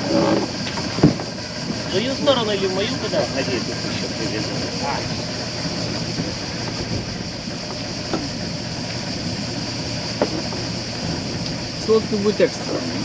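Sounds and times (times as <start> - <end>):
boat engine droning: 0.0 - 13.0
high-pitched hiss: 0.1 - 13.0.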